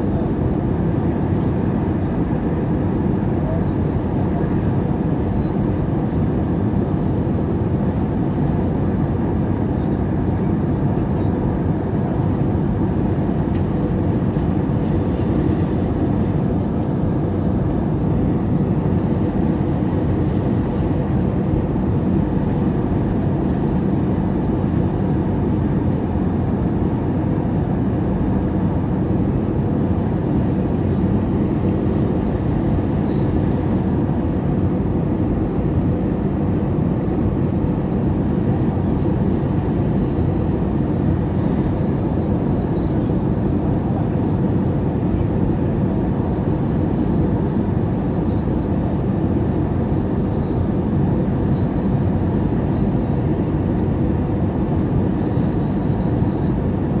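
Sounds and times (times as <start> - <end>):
jet engines and airflow rush: 0.0 - 57.0.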